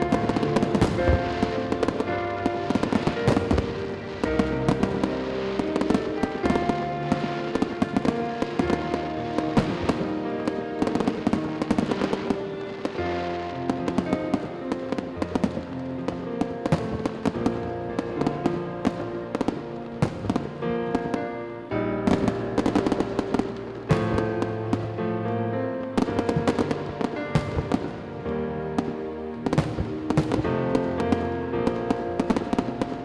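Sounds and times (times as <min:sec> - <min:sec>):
fireworks bursting and crackling: 0:00.0 - 0:33.0
music: 0:00.0 - 0:33.0.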